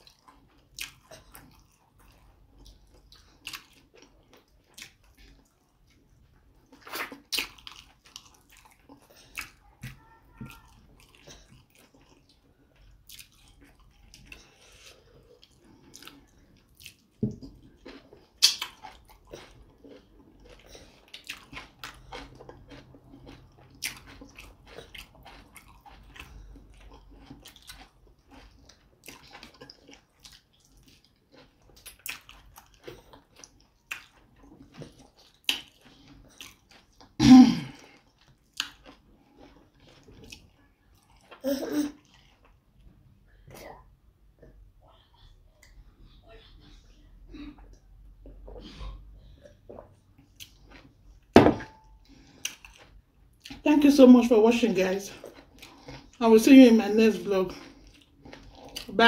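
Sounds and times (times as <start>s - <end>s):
chewing and lip-smacking: 0.0s - 37.2s, 37.8s - 43.8s, 44.4s - 53.7s, 55.1s - 56.2s, 57.2s - 59.0s.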